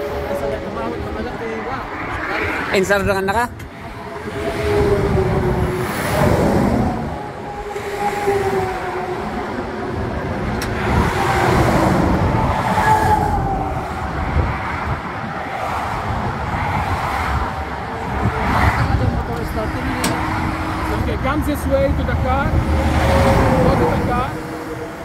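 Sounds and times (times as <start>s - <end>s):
highway traffic passing: 0.0s - 25.0s.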